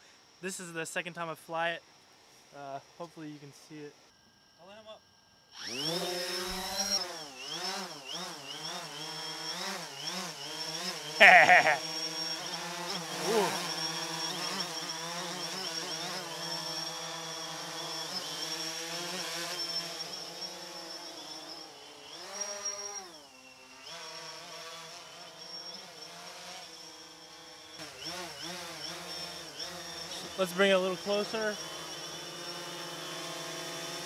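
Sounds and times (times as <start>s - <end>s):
drone propellers buzzing: 5.6s - 34.0s.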